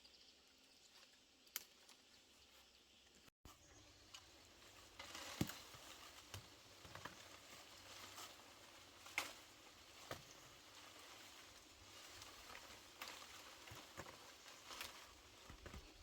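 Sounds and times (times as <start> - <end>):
faint rustling and handling: 1.8 - 16.0.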